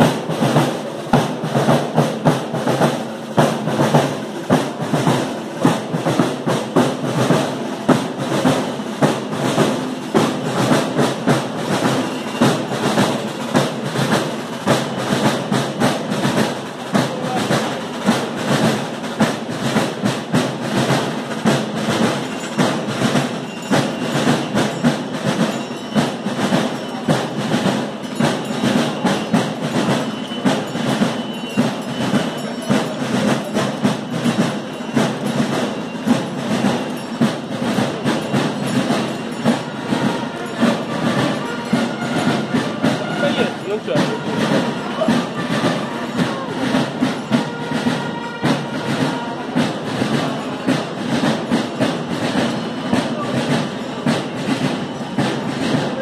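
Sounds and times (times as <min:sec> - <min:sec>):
fast rhythmic clattering percussion: 0:00.0 - 0:56.0
music: 0:00.0 - 0:56.0.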